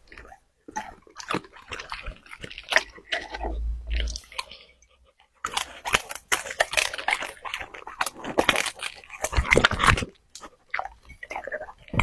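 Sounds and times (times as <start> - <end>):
dog chewing crunchy food: 0.0 - 4.6, 5.4 - 12.0.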